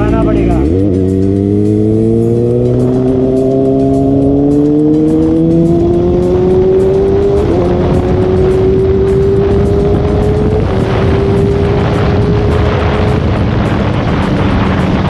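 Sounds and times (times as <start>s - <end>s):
motorcycle exhaust note climbing: 0.0s - 15.0s.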